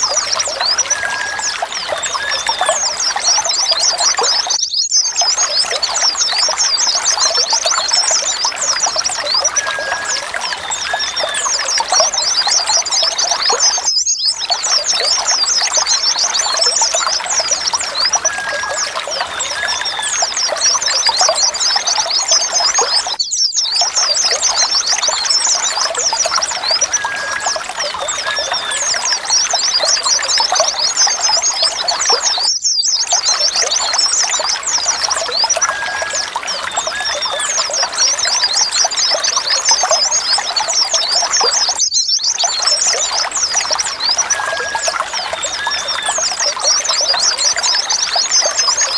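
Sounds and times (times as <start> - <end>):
flock of birds chattering and chirping: 0.0 - 48.9.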